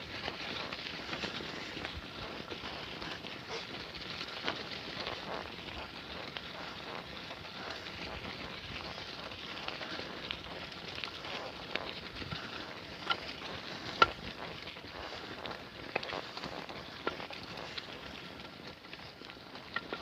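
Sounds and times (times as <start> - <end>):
bicycle clicks and rattles: 0.0 - 20.0
bicycle tyres crunching on gravel: 0.0 - 20.0.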